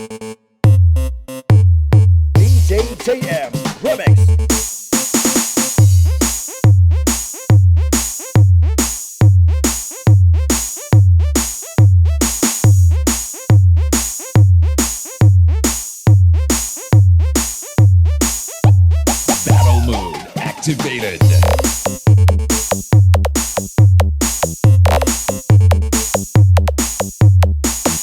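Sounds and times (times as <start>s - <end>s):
electronic dance music: 0.0s - 28.0s.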